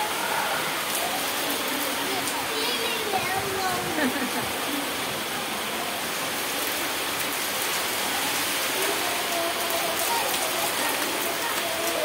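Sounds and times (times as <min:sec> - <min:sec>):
rain falling on concrete: 0:00.0 - 0:12.0.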